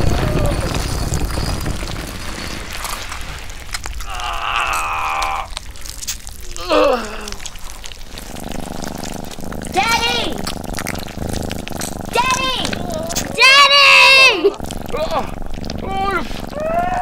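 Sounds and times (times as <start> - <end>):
crackles and rustling: 0.0 - 17.0.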